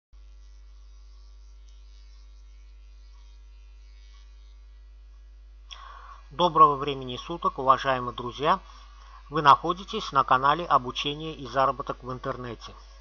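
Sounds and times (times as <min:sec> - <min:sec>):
low electrical hum: 0:00.2 - 0:13.0
faint hiss: 0:00.4 - 0:13.0.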